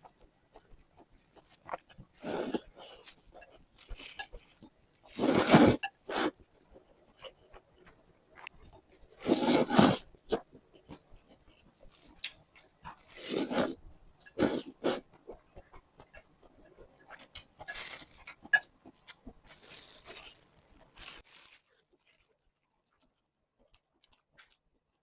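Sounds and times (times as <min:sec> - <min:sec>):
chewing and mouth noises: 0:00.0 - 0:25.0.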